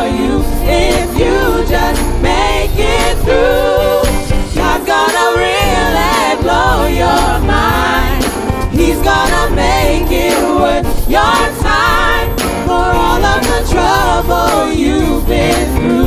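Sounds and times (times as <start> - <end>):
backing track with bass and drums: 0.0 - 16.0
women singing in harmony: 0.0 - 16.0.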